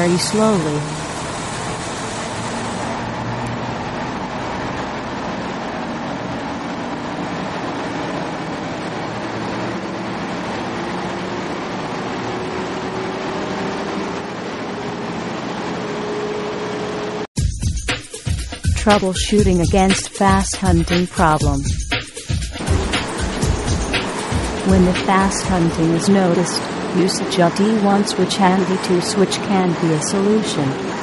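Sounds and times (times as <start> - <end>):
diesel engine speeding up: 0.0 - 17.3, 18.3 - 31.0.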